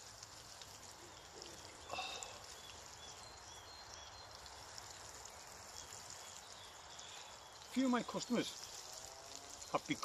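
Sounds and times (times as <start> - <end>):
faint sizzle of frying egg: 0.0 - 10.0.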